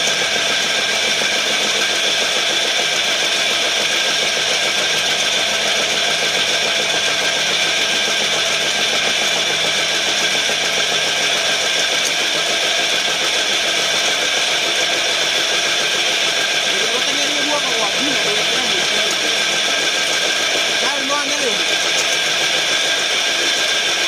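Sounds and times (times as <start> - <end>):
machine drone with high whine: 0.0 - 24.0.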